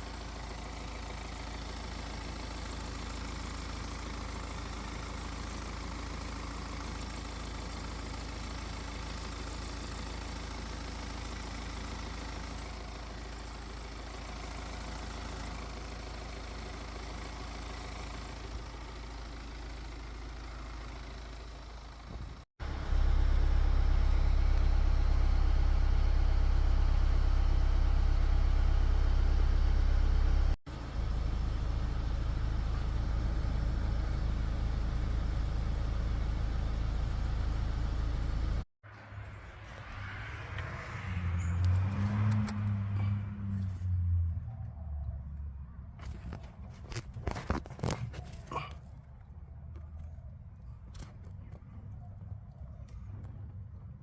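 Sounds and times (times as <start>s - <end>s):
engine idling: 0.0s - 40.0s, 41.4s - 54.0s.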